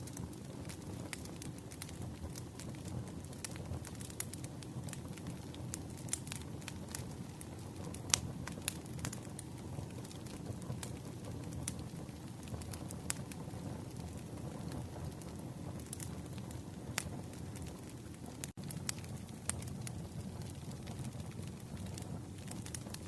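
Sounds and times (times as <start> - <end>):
low rumble of flames: 0.0 - 23.0
wood crackling and popping: 0.0 - 23.0.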